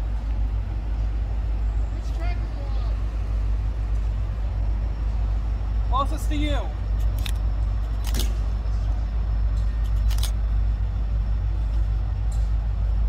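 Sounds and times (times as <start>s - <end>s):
diesel locomotives idling: 0.0s - 13.0s.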